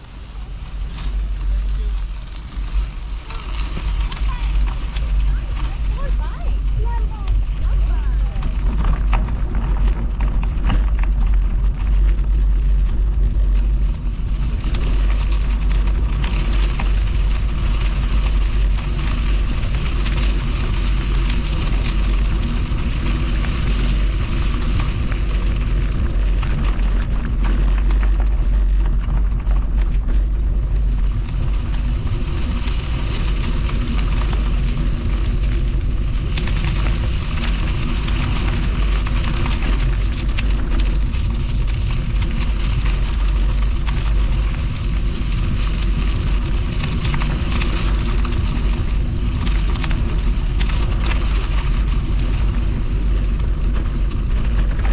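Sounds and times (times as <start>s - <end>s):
crackly hiss: 0.0s - 54.9s
wind buffeting microphone: 0.0s - 54.9s.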